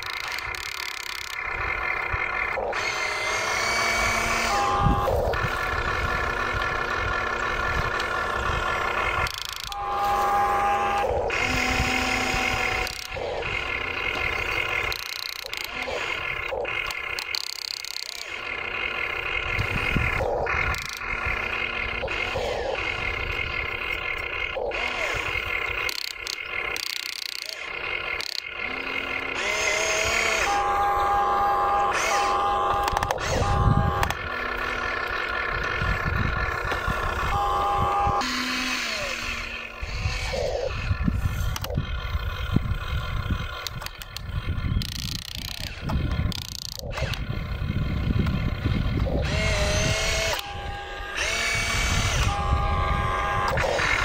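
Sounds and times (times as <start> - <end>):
toy excavator motors whining: 0.0 - 54.0.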